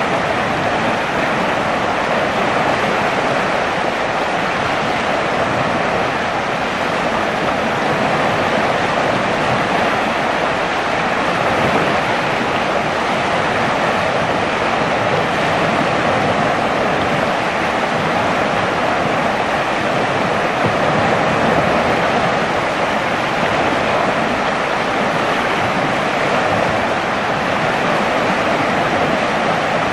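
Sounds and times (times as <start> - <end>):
river rushing: 0.0 - 29.9.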